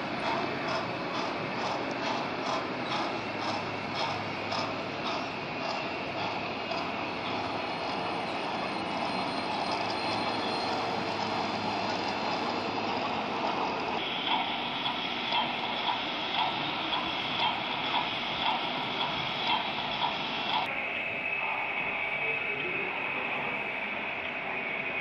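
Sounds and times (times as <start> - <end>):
model train whirring: 0.0 - 25.0.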